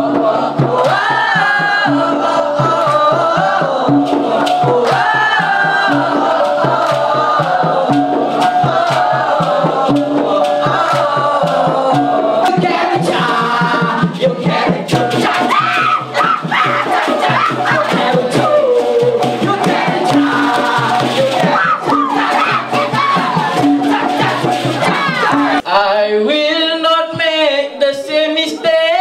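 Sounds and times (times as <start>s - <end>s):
hand drums beat: 0.0s - 25.6s
chorus singing chant-like melody: 0.0s - 25.9s.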